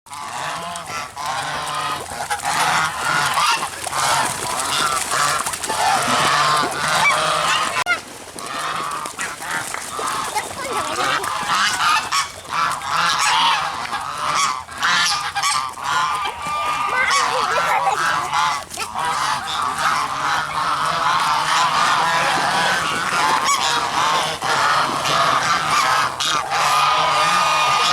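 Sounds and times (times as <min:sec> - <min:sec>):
geese honking: 0:00.1 - 0:27.9.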